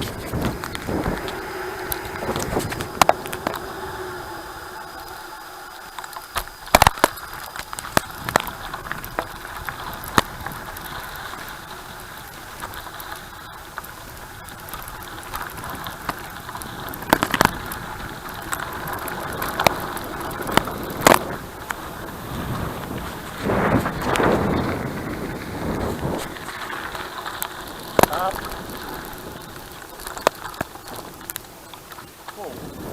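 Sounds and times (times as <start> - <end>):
bicycle rolling over rough ground: 0.0 - 32.9
bike rattling and knocking: 0.0 - 32.9.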